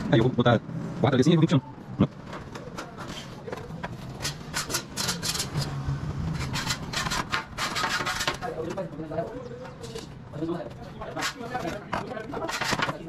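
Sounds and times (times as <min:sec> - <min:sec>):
roof tiles scraping and knocking: 0:02.3 - 0:13.0.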